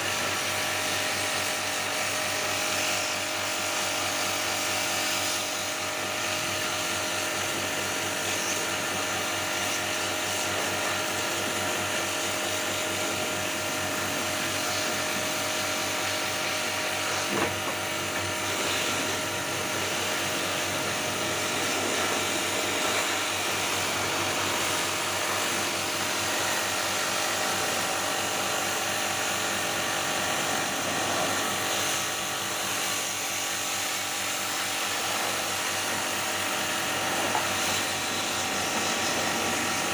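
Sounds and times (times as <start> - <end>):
small machine motor humming: 0.0 - 39.9.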